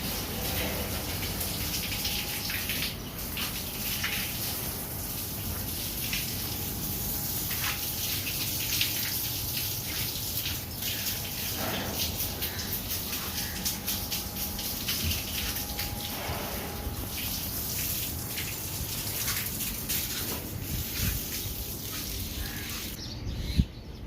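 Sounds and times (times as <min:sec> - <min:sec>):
water splashing from garden hose: 0:00.0 - 0:23.0.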